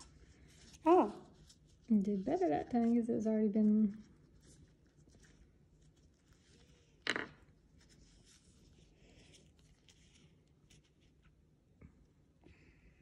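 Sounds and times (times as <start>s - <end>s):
plastic gloves rustling: 0.0s - 11.7s.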